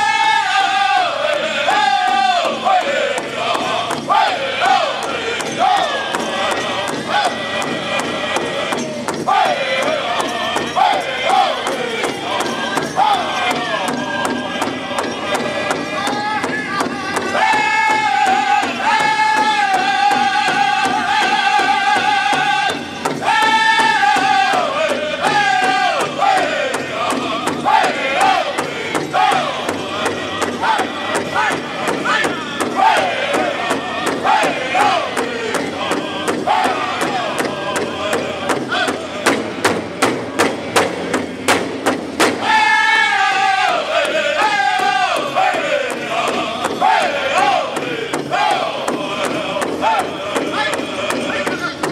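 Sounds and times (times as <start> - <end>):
large drum beaten with sticks: 0.0 - 51.9
singers in unison: 0.0 - 51.9.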